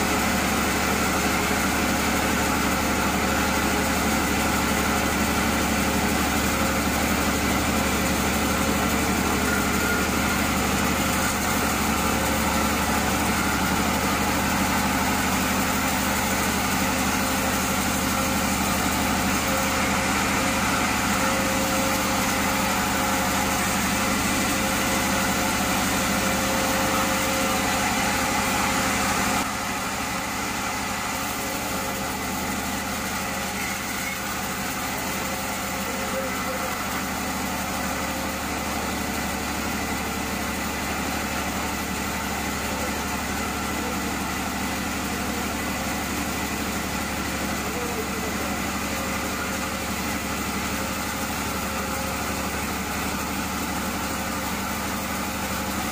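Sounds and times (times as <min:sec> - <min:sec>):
band sawmill sawing log: 0:00.0 - 0:55.9.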